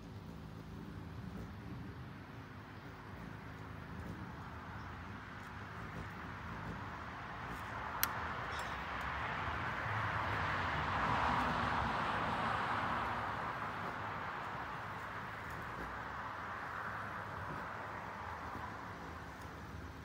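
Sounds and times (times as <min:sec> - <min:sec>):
vehicle passing on road: 0:00.0 - 0:20.0.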